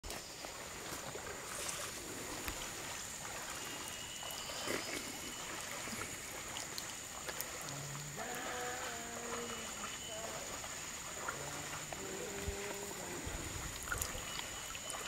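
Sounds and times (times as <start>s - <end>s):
stream water trickling over rocks: 0.0s - 15.0s.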